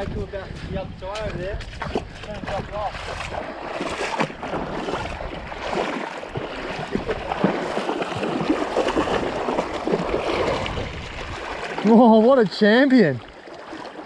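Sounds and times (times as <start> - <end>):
creek water splashing: 0.0 - 14.0.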